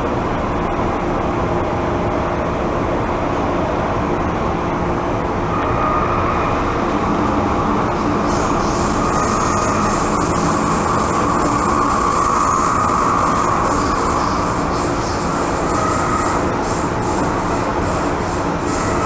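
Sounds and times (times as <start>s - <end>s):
high whine: 0.0s - 19.0s
train wheels rumbling: 0.0s - 19.0s.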